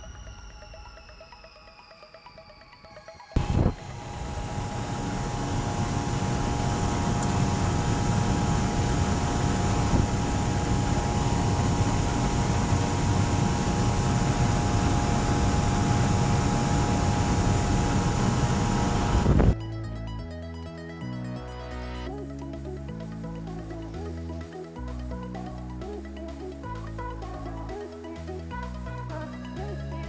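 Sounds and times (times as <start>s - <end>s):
steady whine: 0.0s - 30.0s.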